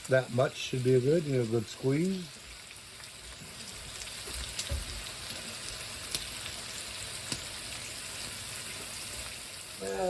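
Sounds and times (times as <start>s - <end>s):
bacon sizzling in a frying pan: 0.0s - 10.0s.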